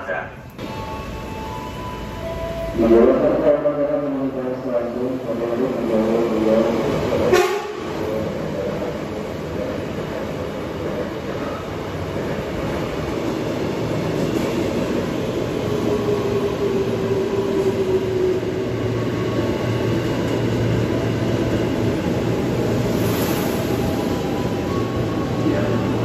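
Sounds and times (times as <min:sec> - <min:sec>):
electric train rumble and hum: 0:00.0 - 0:26.0.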